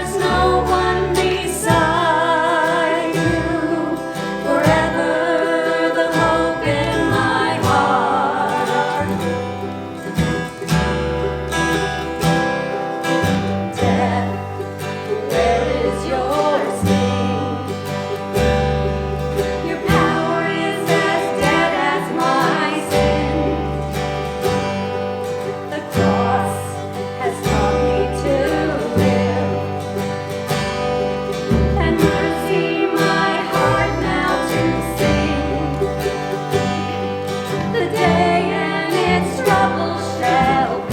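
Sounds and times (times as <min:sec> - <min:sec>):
bass line: 0:00.0 - 0:40.9
strummed acoustic guitar: 0:00.0 - 0:40.9
vocal group singing: 0:00.0 - 0:40.9.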